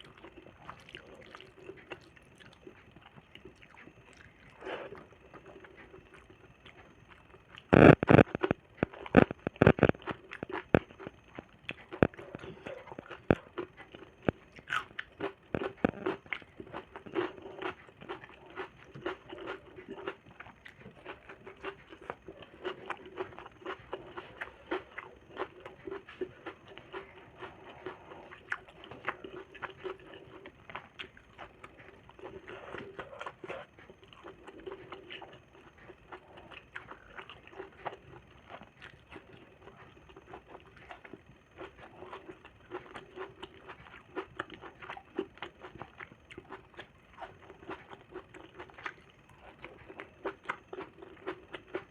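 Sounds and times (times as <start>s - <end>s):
person chewing and smacking food: 0.0s - 51.9s.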